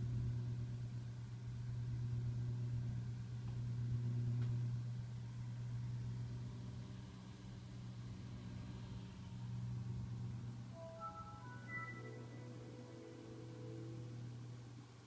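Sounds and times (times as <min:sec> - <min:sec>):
computer electrical hum: 0:00.0 - 0:15.0.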